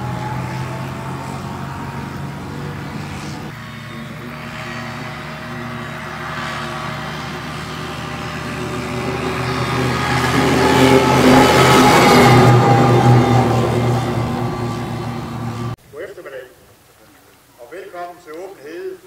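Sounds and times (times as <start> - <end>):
tracked vehicle diesel engine: 0.0 - 15.8.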